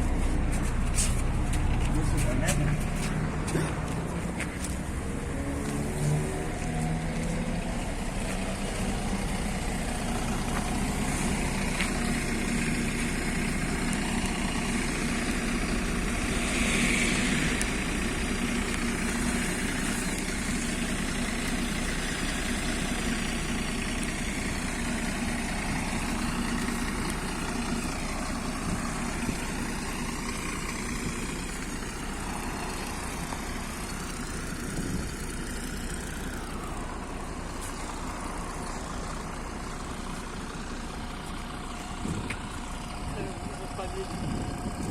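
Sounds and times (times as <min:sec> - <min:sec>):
bus engine humming: 0:00.0 - 0:44.9
road rumble: 0:00.0 - 0:44.9.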